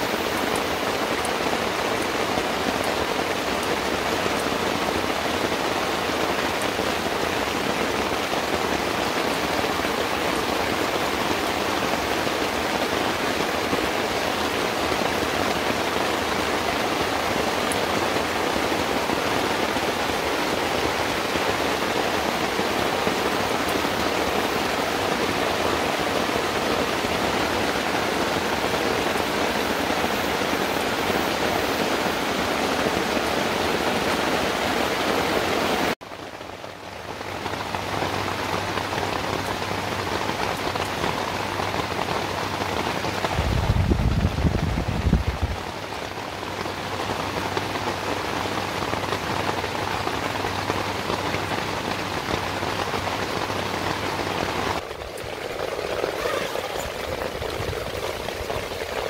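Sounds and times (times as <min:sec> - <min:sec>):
heavy rain on tarp and gravel: 0:00.0 - 0:59.0
soft rain on tent fabric: 0:00.0 - 0:59.0.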